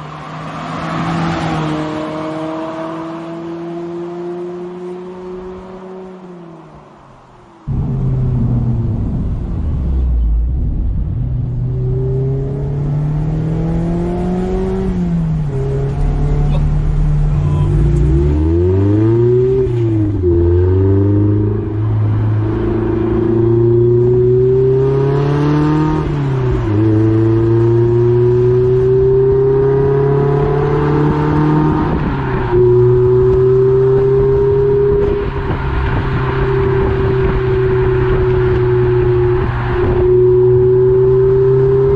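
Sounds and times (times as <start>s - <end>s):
car engine accelerating under load: 0.0s - 41.9s.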